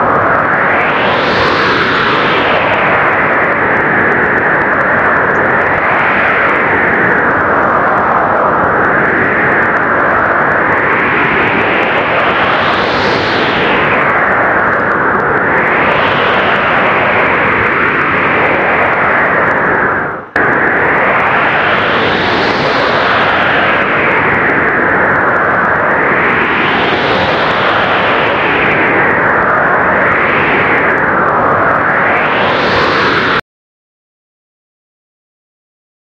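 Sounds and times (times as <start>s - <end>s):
blizzard wind roaring: 0.0s - 33.4s.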